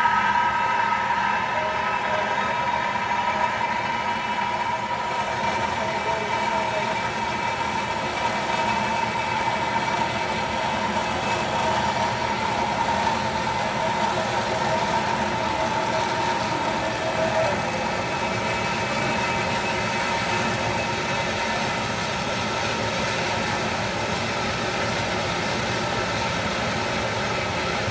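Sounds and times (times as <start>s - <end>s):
machine whine and rumble: 0.0s - 27.9s.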